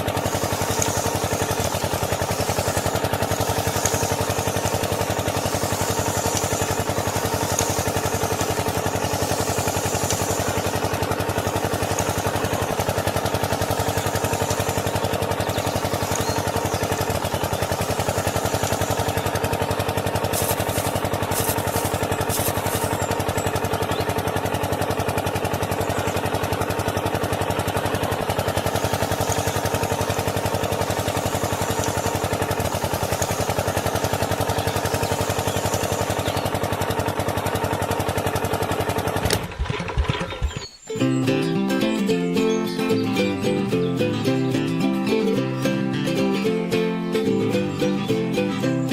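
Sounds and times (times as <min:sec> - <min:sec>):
small engine idling: 0:00.0 - 0:48.9.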